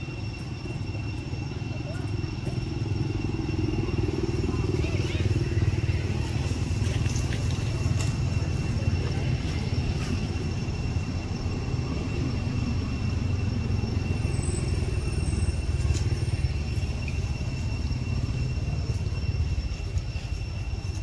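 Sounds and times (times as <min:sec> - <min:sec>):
high-pitched whine: 0:00.0 - 0:21.0
low outdoor rumble: 0:00.0 - 0:21.0.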